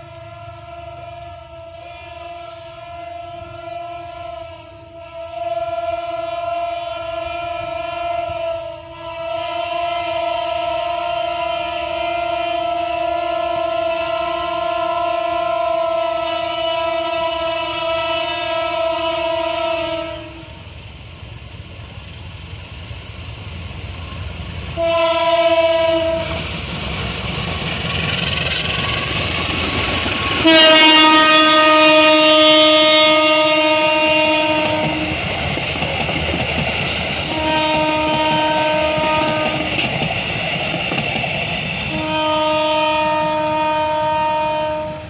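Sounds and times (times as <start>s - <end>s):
locomotive horn blasts: 0.0s - 20.7s, 24.2s - 35.8s, 37.0s - 39.9s, 41.8s - 45.0s.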